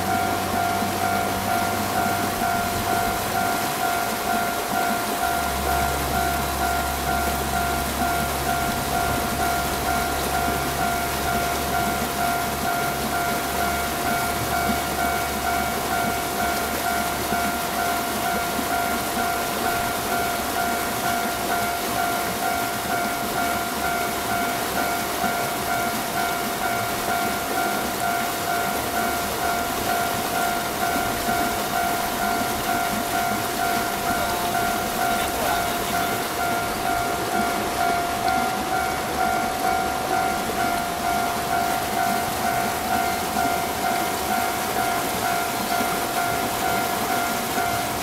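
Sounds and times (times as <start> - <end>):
level crossing warning bell: 0.0 - 48.0
rain hiss: 0.0 - 48.0.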